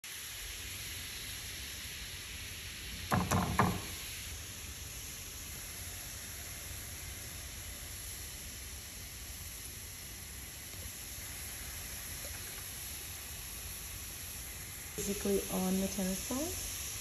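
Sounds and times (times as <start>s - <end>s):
frying pan sizzling: 0.0s - 17.0s.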